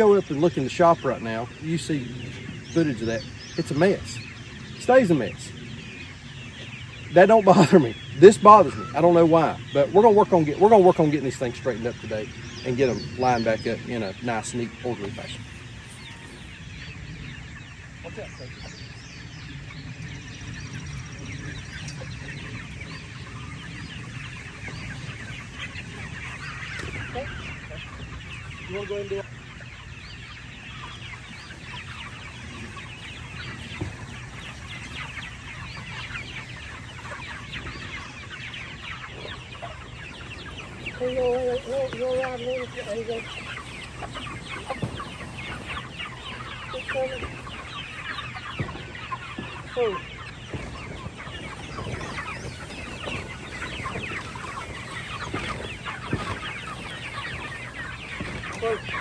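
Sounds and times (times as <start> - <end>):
chickens peeping: 0.0 - 59.0.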